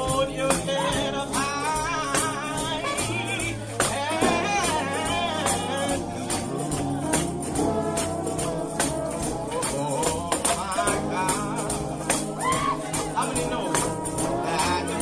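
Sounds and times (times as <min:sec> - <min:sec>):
gospel singing and instruments: 0:00.0 - 0:15.0
tambourine beat: 0:00.0 - 0:15.0.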